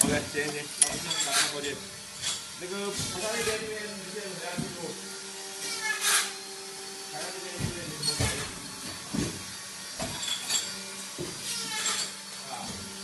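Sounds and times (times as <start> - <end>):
low electric machine hum: 0.0 - 13.0.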